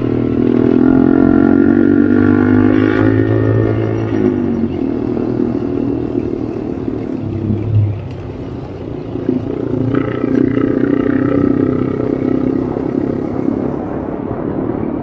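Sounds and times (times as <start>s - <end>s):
vehicle engine working offroad: 0.0s - 15.0s.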